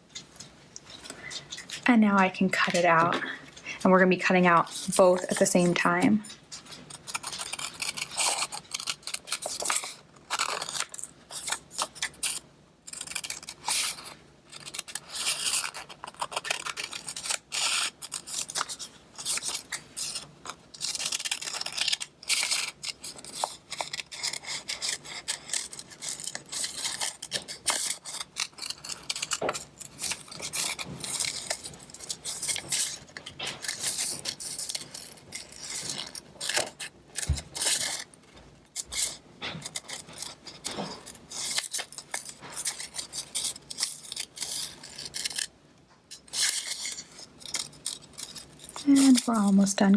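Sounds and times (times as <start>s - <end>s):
scissors cutting paper: 0.8s - 38.1s, 38.7s - 45.5s, 46.1s - 49.9s.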